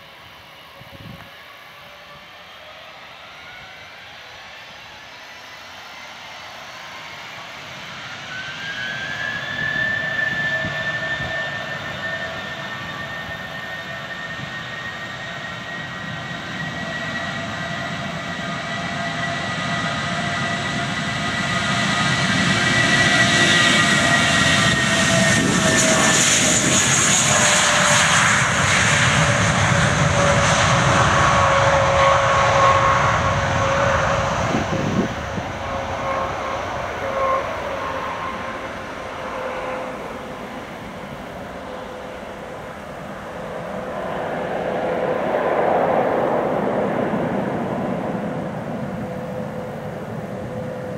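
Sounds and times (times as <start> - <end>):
jet engines whining at takeoff: 0.0 - 50.9.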